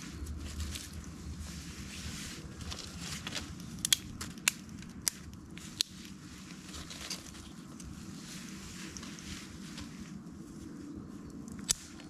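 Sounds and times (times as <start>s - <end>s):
low steady rustling: 0.0s - 12.0s.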